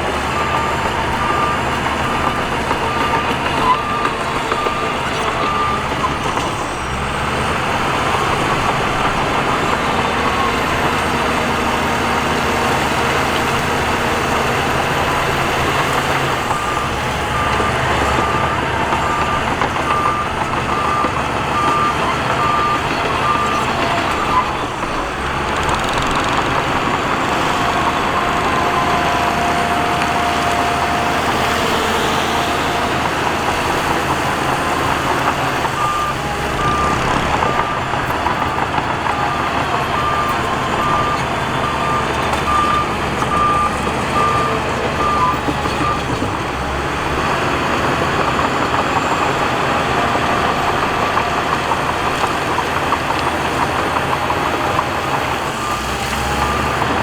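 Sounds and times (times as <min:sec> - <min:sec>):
heavy machinery engines running: 0:00.0 - 0:57.0
reversing alarm beeping: 0:00.1 - 0:46.4.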